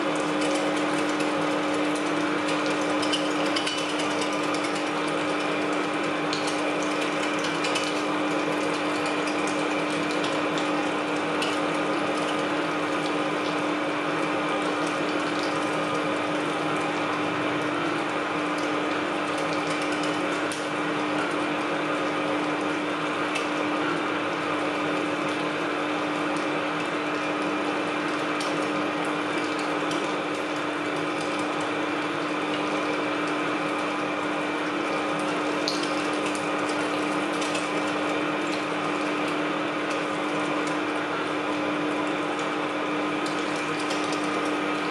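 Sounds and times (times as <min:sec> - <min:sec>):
electric meat grinder humming: 0:00.0 - 0:44.9.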